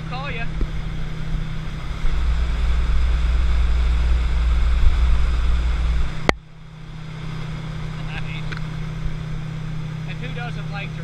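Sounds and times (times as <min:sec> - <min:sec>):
boat engine running: 0:00.0 - 0:11.0
low wind rumble on microphone: 0:00.0 - 0:11.0.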